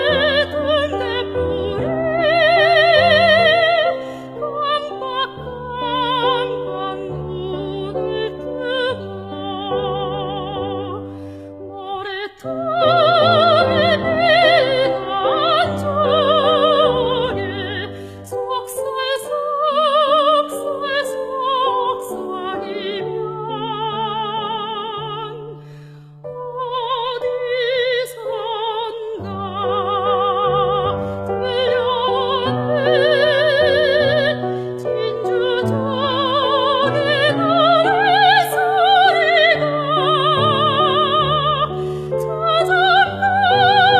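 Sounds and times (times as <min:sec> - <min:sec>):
soprano singing operatically: 0:00.0 - 0:43.9.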